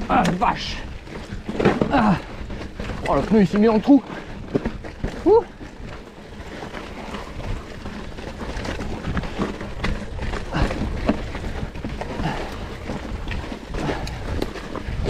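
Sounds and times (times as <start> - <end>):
bike knocks and rattles on rocks: 0.0 - 15.0.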